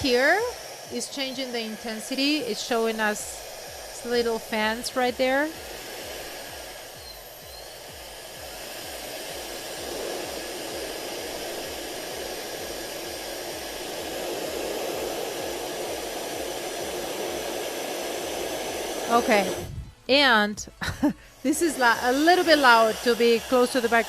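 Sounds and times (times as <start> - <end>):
hair dryer running: 0.0 - 20.0, 20.8 - 24.0.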